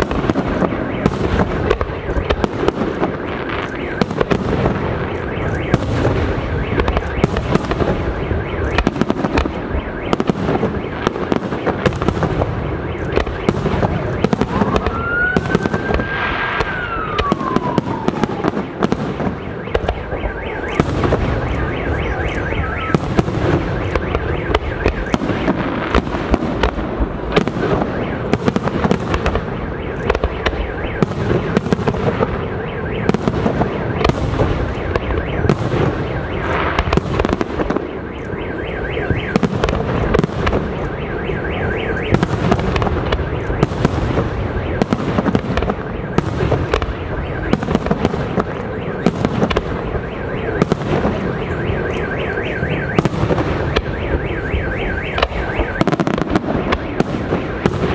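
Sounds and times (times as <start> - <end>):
firework whistle: 0.0 - 57.9
fireworks crackling: 0.0 - 57.9.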